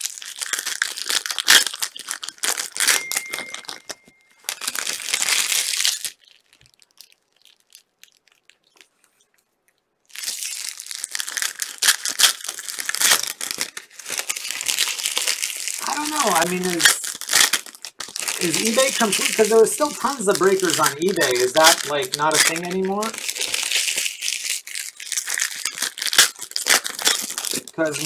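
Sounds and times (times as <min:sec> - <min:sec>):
wrappers torn and crumpled: 0:00.0 - 0:28.0.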